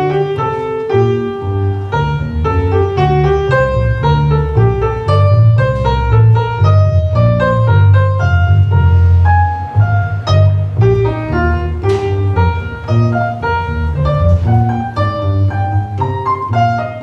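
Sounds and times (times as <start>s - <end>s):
baroque instrumental music: 0.0s - 17.0s.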